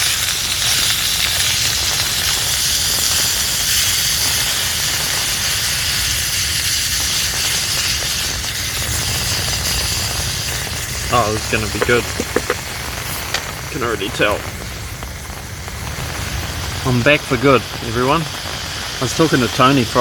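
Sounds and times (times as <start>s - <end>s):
low rumble of camp stove: 0.0s - 20.0s
meat sizzling in a pan: 0.0s - 20.0s.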